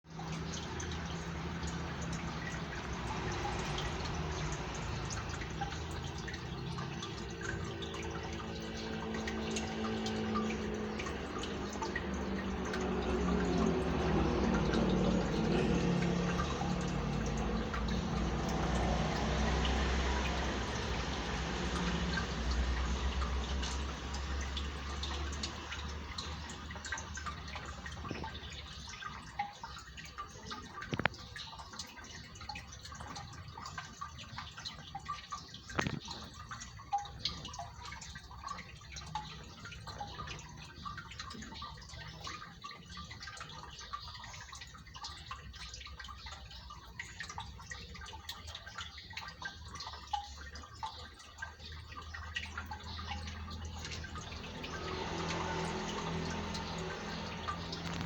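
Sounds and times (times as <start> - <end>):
water trickling and dripping: 0.0 - 58.0
small clicks and ticks: 0.1 - 58.0.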